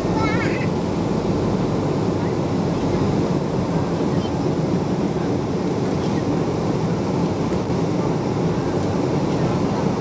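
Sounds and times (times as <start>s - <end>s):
airliner cabin engine roar: 0.0s - 10.0s.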